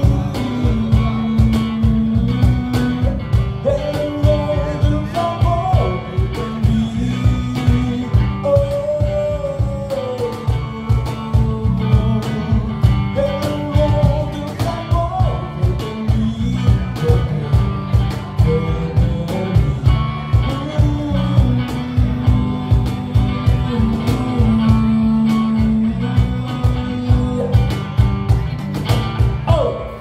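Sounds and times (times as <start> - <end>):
cajon beat: 0.0 - 30.0
electric bass: 0.0 - 30.0
electric guitar: 0.0 - 30.0
man singing lead: 0.0 - 30.0.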